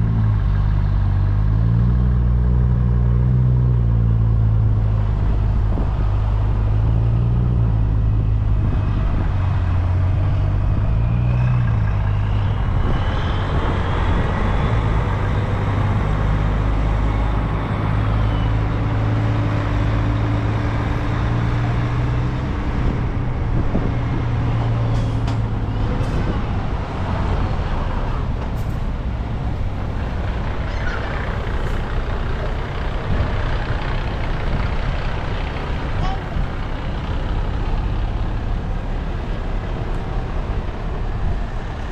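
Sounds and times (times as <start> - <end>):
truck diesel engine droning: 0.0 - 41.9.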